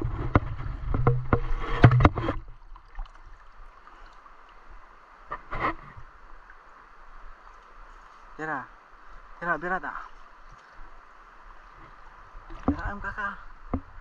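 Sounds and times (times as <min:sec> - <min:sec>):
river flowing: 0:00.0 - 0:14.0
water sloshing near microphone: 0:00.0 - 0:14.0.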